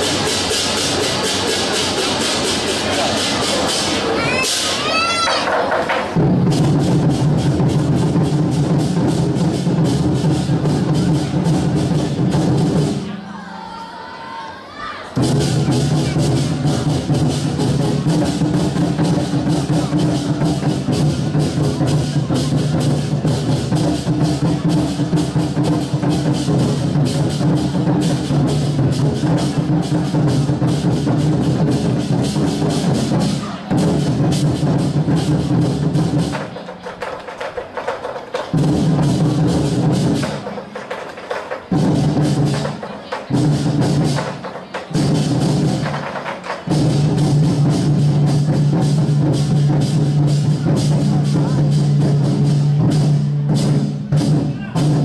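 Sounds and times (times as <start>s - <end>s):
large drums playing fast: 0.0s - 13.3s, 15.2s - 55.0s.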